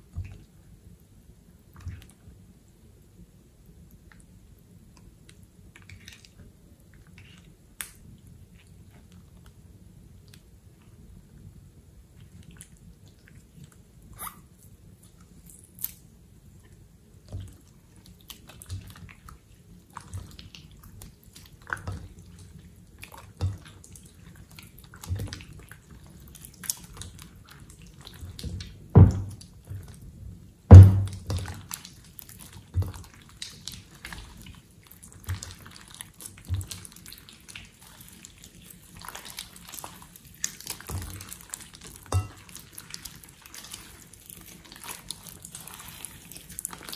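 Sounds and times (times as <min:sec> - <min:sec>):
sticky slime squelches: 0:01.6 - 0:02.3, 0:03.9 - 0:11.1, 0:12.0 - 0:46.9.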